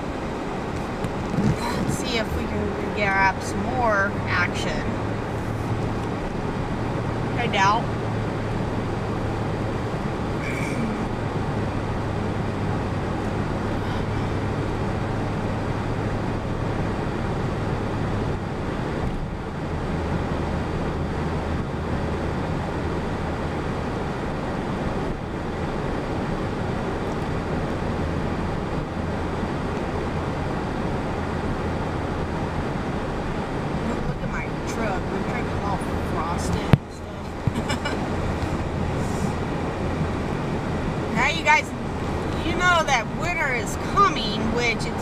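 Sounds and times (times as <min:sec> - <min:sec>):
truck engine and road noise: 0:00.0 - 0:45.0.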